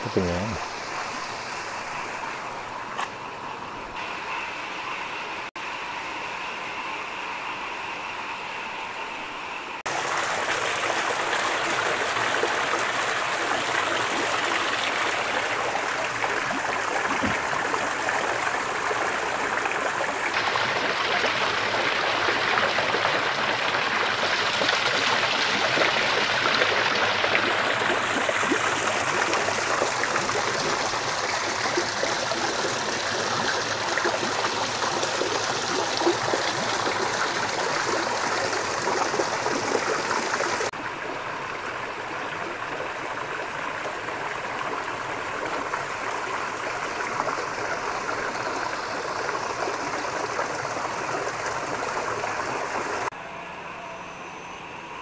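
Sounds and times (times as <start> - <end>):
waterfall splashing into pond: 0.0 - 1.2, 9.9 - 53.1.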